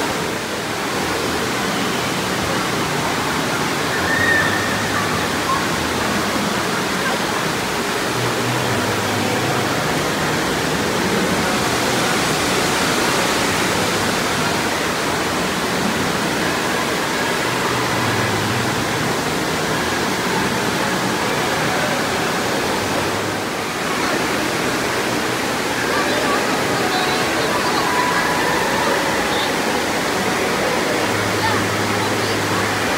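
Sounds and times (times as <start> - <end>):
water rushing down a slide: 0.0 - 32.9.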